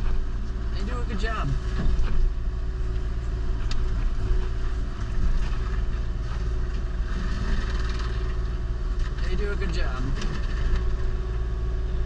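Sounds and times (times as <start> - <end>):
excavator diesel engine droning: 0.0 - 12.0
hydraulic mulcher head running: 0.0 - 12.0.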